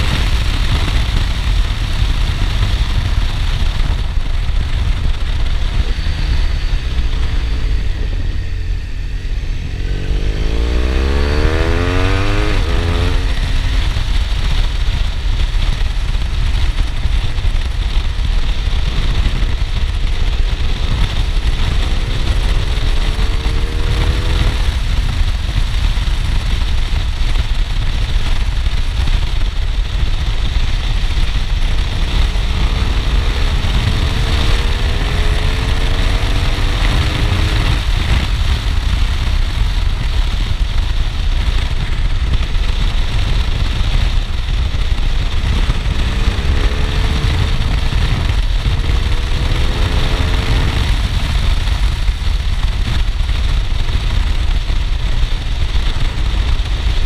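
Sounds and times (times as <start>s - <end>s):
motorcycle engine accelerating: 0.0s - 57.0s
wind rumble on microphone: 0.0s - 57.0s.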